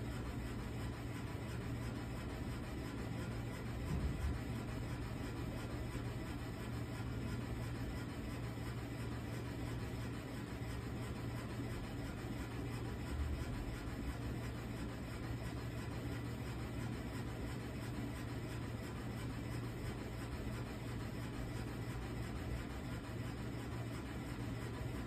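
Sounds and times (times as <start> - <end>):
air conditioner running: 0.0 - 25.0.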